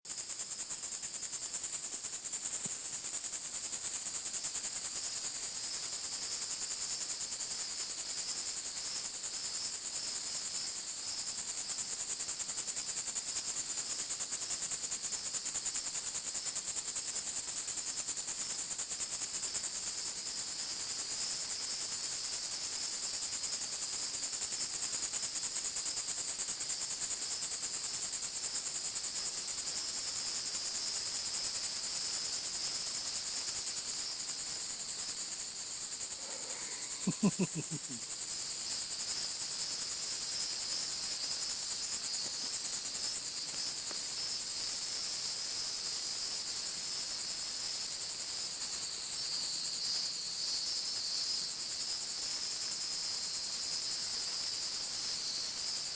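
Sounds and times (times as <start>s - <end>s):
insects trilling: 0.1s - 55.9s.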